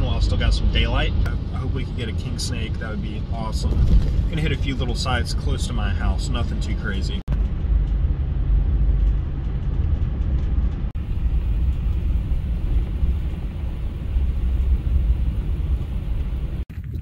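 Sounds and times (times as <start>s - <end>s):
tyres on dirt road: 0.0s - 17.0s
vehicle engine rumble: 0.0s - 17.0s.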